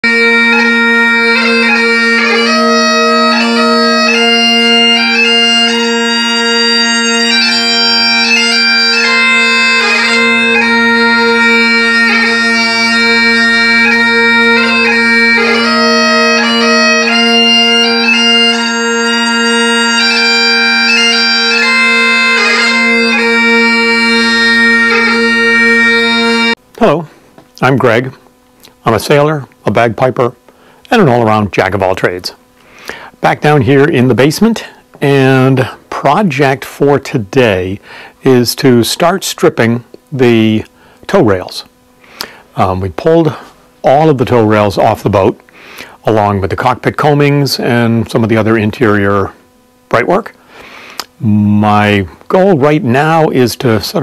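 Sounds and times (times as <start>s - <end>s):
bagpipes playing a tune: 0.0s - 28.1s, 30.4s - 54.0s.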